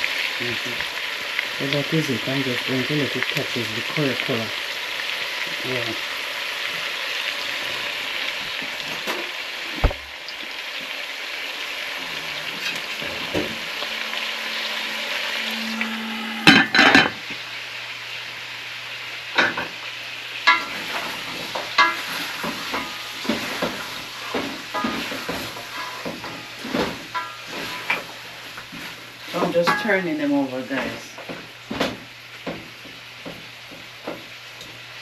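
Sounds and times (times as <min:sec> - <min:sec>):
meat sizzling in oil: 0:00.0 - 0:35.0.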